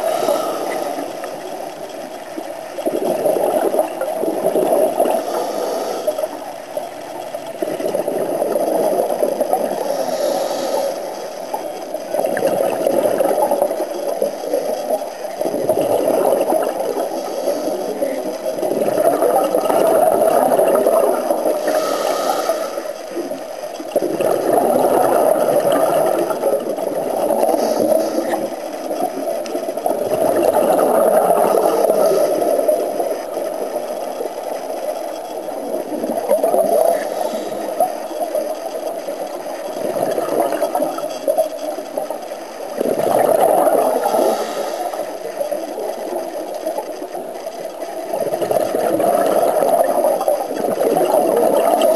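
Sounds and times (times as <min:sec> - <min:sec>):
underwater exhaled bubbles: 0:00.0 - 0:51.9.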